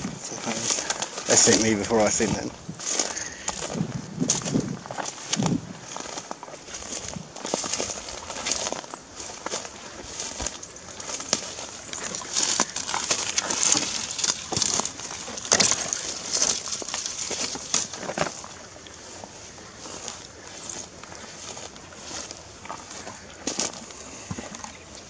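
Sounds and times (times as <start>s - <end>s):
footsteps crunching through dry grass: 0.0s - 25.0s.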